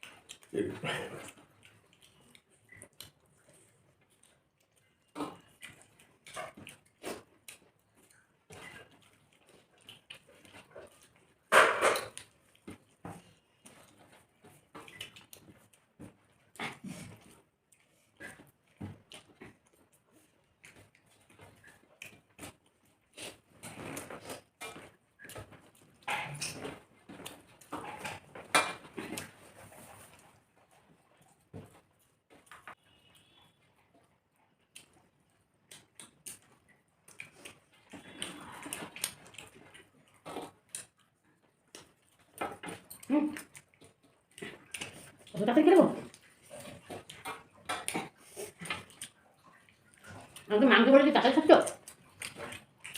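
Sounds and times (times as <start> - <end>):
wet chewing and mouth smacks: 0.0 - 52.9.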